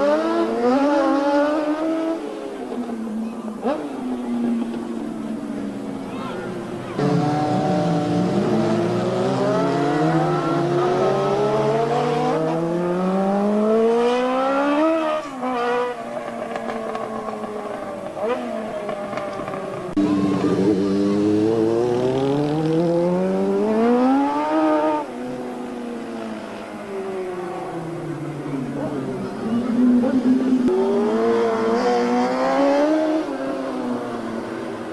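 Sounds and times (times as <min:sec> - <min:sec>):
superbikes passing at full throttle: 0:00.0 - 0:34.9.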